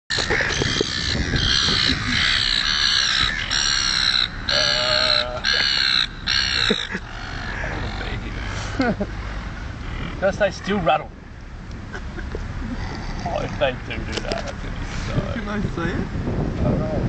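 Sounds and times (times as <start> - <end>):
gulls calling: 0.1 - 15.6.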